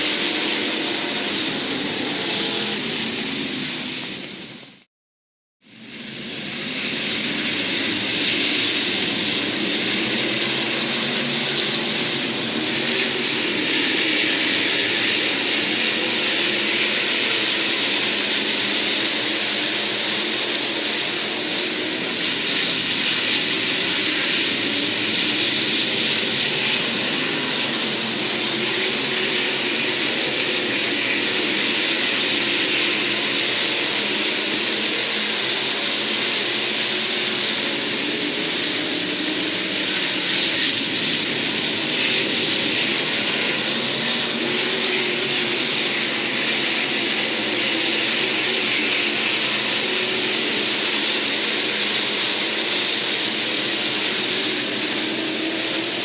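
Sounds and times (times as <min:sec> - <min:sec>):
race car engines droning: 0:00.0 - 0:04.5, 0:06.0 - 0:56.0
heavy hiss: 0:06.8 - 0:56.0.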